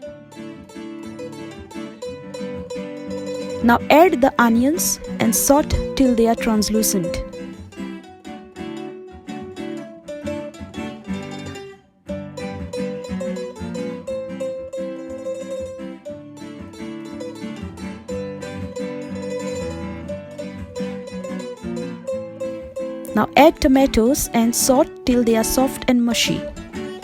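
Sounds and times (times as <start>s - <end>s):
plucked string music: 0.0s - 27.0s.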